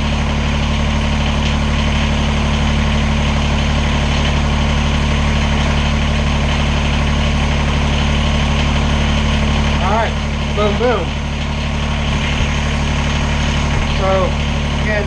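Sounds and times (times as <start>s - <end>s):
diesel tractor engine idling: 0.0s - 15.0s.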